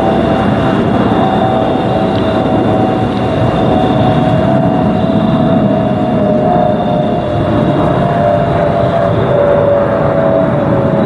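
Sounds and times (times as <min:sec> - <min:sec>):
faint high whistle: 0:00.0 - 0:11.0
jet engine rushing noise: 0:00.0 - 0:11.0
mid-pitched whistle: 0:01.1 - 0:11.0.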